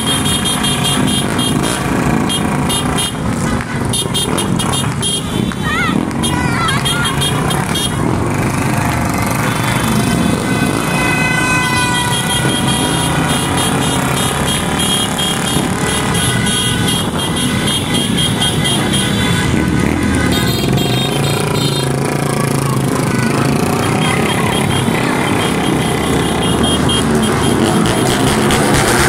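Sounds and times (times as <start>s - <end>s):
horns sounding: 0.0s - 29.0s
motorcycle engines running: 0.0s - 29.0s.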